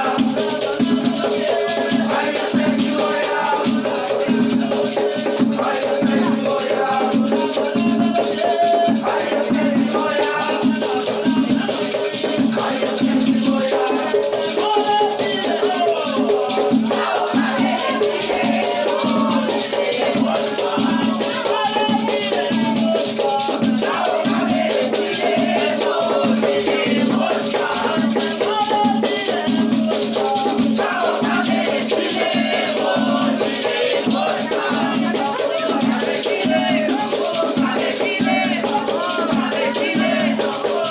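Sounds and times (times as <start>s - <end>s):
drums beating steady rhythm: 0.0s - 40.9s
shaken rattles: 0.0s - 40.9s
voices singing: 0.0s - 40.9s.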